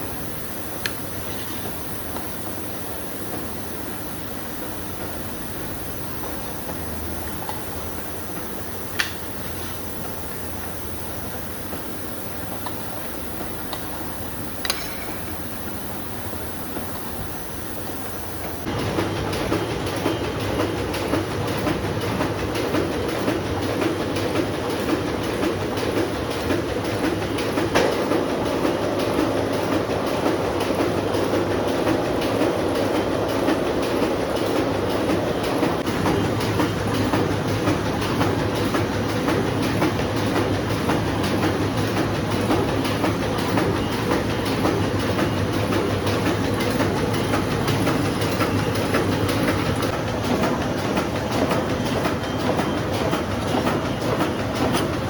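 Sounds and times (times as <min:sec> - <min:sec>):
printing press clattering: 0:00.0 - 0:55.0.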